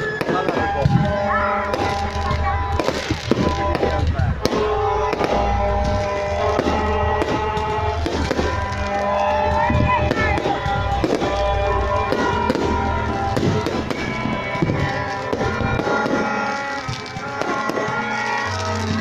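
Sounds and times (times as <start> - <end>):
fireworks bangs and crackles: 0.0 - 19.0
music with held notes: 0.0 - 19.0.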